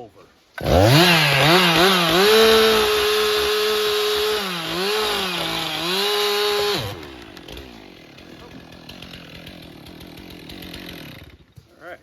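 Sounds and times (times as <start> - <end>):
chainsaw cutting wood: 0.6 - 11.8.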